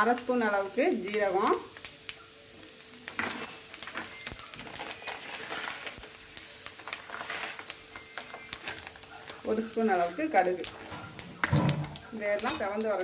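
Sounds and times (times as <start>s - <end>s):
seeds sizzling in hot oil: 0.0s - 13.0s.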